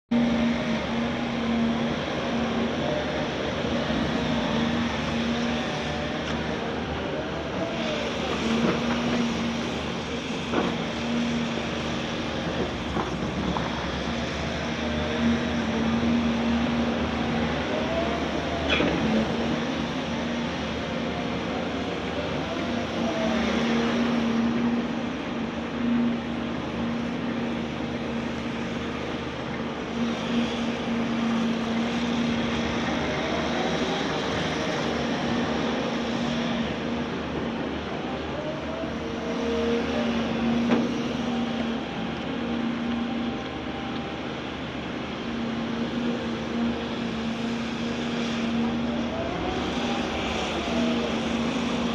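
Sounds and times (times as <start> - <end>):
excavator running: 0.1 - 51.9
hydraulic whine: 0.1 - 51.9.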